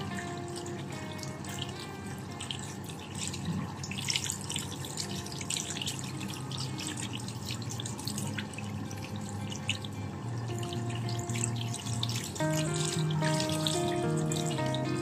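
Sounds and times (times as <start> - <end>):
tap water running and splashing: 0.0 - 15.0.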